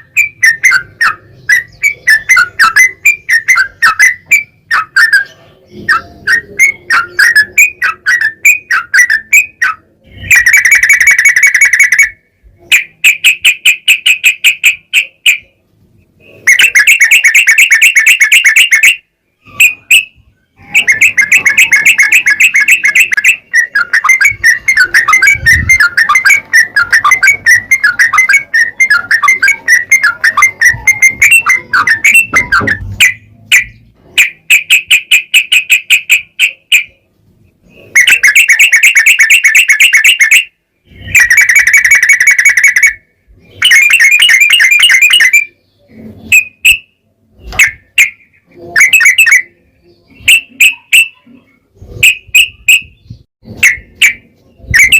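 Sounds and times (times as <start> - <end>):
bulbul singing chattering notes: 0.0 - 54.9.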